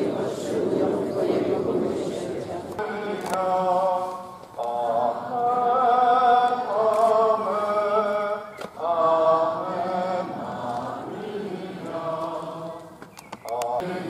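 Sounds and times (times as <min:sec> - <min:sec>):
crowd singing a hymn: 0:00.0 - 0:14.0.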